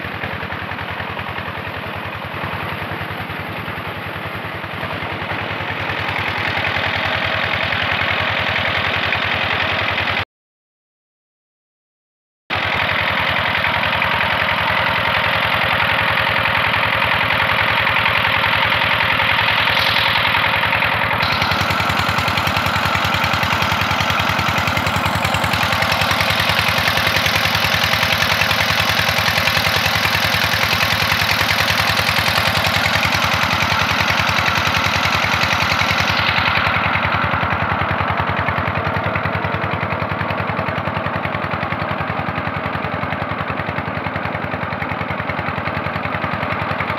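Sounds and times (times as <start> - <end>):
diesel pump engine running: 0.0 - 10.2, 12.5 - 46.9.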